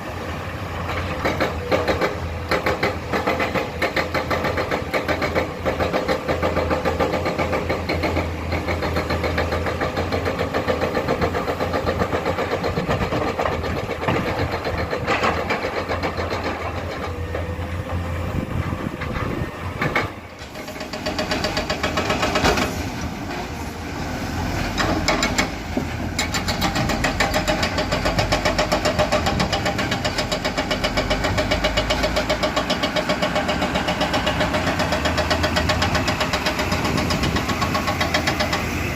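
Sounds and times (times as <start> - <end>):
excavator diesel engines throbbing: 0.0 - 38.9.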